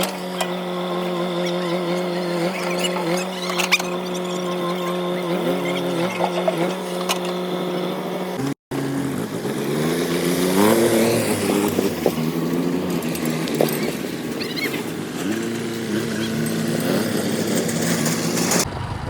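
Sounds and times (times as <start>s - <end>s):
heavy diesel engine revving: 0.0s - 19.0s.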